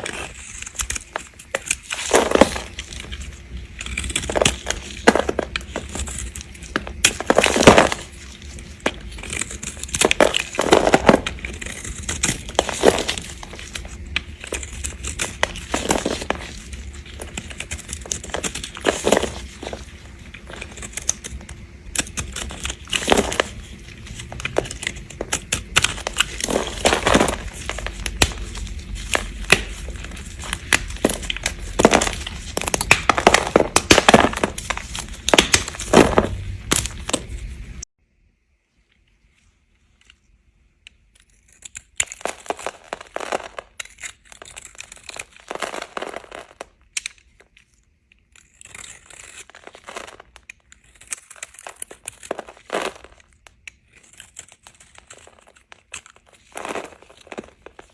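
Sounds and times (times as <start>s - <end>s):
knife cutting crunchy soap: 0.0s - 37.3s, 41.1s - 47.6s, 48.3s - 57.9s.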